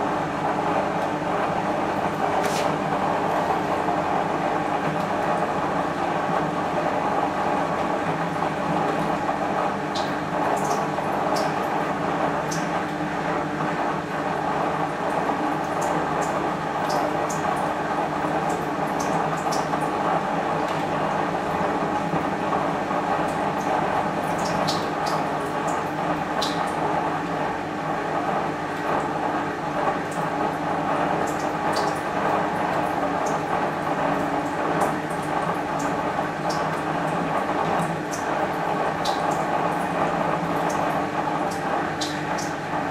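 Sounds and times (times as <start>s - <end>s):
washing machine motor hum: 0.0s - 42.9s.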